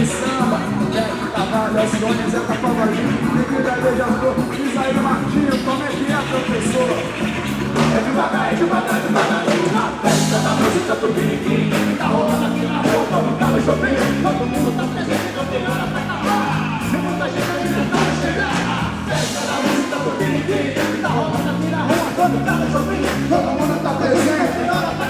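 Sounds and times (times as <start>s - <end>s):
drum beat: 0.0s - 25.0s
live band music: 0.0s - 25.0s
person singing: 0.0s - 25.0s
repeating bass line: 0.0s - 25.0s.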